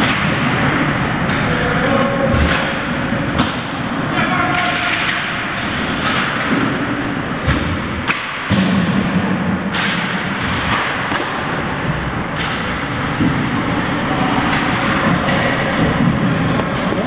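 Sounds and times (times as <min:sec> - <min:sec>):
pucks and sticks knocking: 0:00.0 - 0:17.0.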